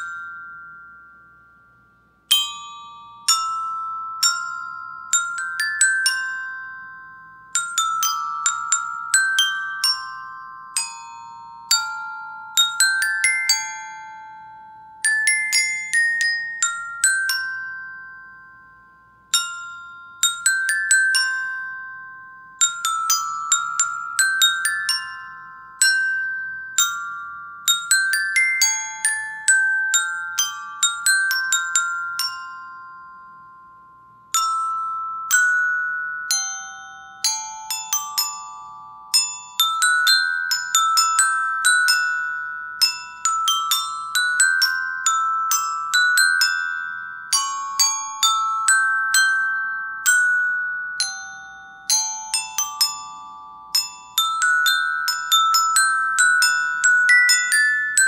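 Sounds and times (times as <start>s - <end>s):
glockenspiel melody: 0.0s - 58.0s.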